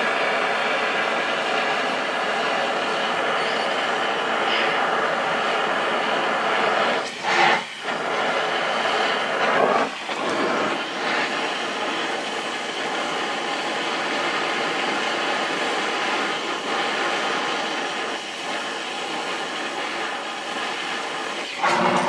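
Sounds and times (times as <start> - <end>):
gas torch flame hissing: 0.0 - 22.0.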